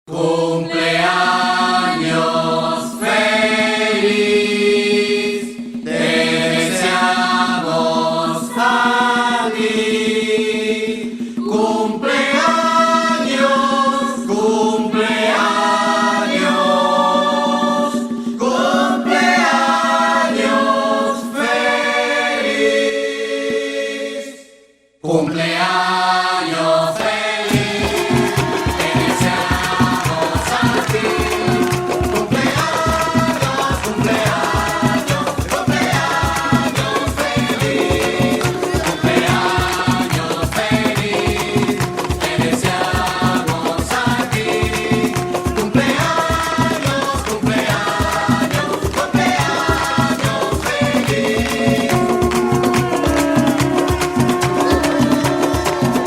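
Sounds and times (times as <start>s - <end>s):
choir-like singing: 0.0s - 56.0s
quick rhythmic percussion: 0.2s - 22.6s, 26.6s - 56.0s.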